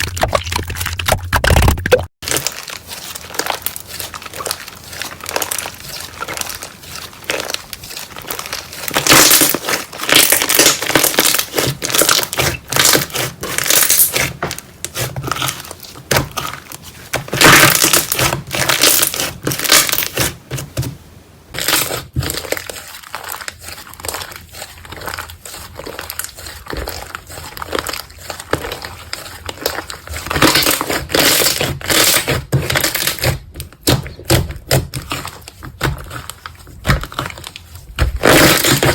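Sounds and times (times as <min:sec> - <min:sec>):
slime crackling by hand: 0:02.2 - 0:20.8, 0:21.5 - 0:38.9.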